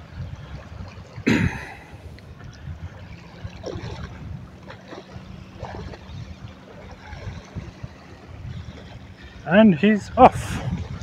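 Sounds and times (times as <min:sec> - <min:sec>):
water lapping at shore: 0:00.0 - 0:11.0
wind buffeting microphone: 0:00.0 - 0:11.0.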